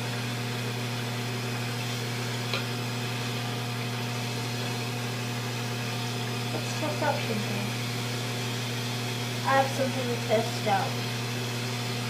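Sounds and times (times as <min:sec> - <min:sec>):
low hum with hiss: 0:01.5 - 0:12.0.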